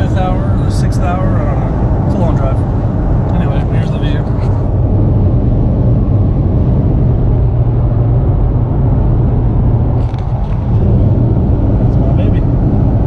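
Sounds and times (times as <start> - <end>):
road and engine rumble in truck cab: 0.0 - 13.0.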